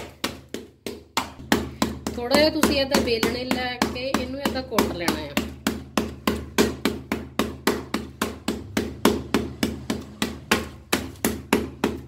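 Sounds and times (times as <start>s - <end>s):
rolling pin knocking on board: 0.0s - 12.0s.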